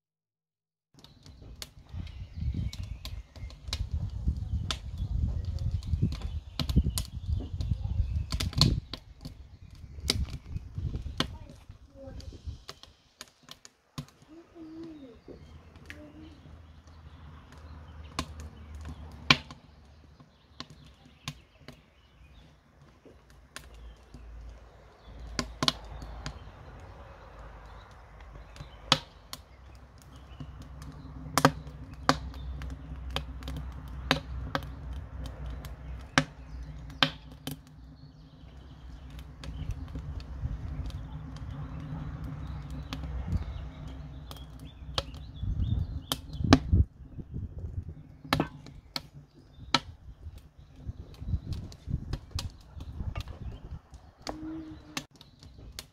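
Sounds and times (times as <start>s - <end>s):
pops and crackles of stove and oil: 1.0s - 55.9s.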